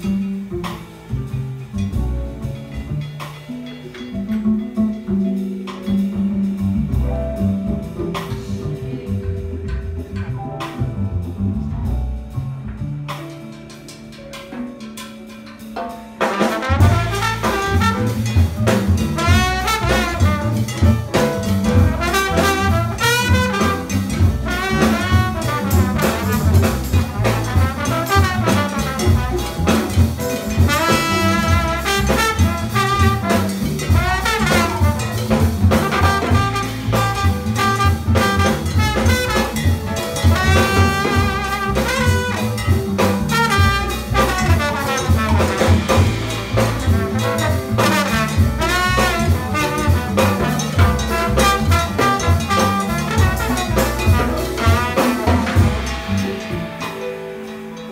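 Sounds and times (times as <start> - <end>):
jazz band playing: 0.0 - 57.9
trombone: 0.0 - 57.9.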